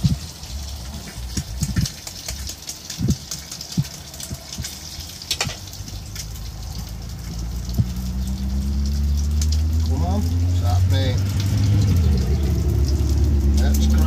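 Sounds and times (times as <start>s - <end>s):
bacon sizzling on a griddle: 0.0s - 14.0s.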